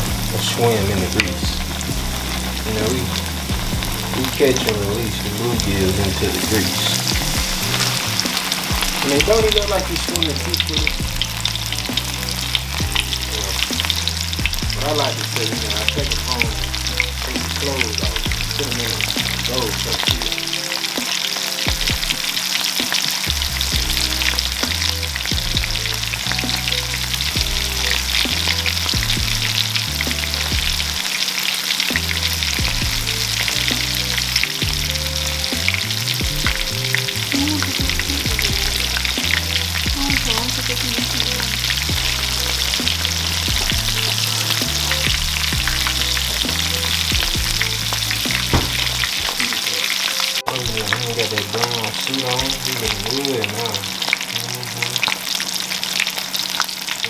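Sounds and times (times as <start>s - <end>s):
fish deep-frying in oil: 0.0s - 57.0s.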